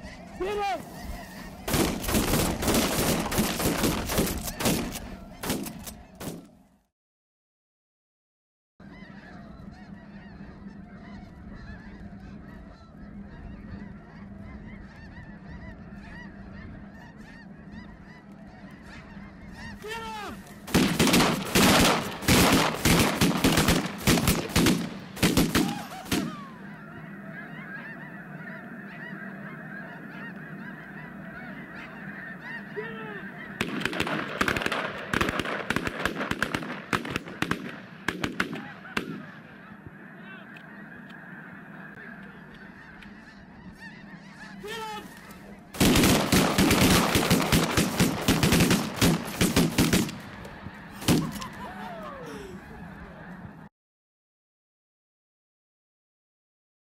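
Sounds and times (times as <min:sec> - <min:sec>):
flock of geese honking: 0:00.0 - 0:06.8, 0:08.8 - 0:53.7.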